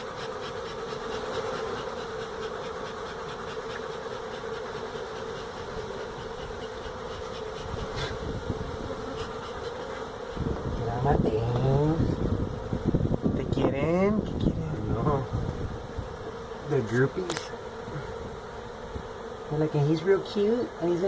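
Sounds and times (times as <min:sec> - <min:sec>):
honey bees buzzing: 0:00.0 - 0:21.0.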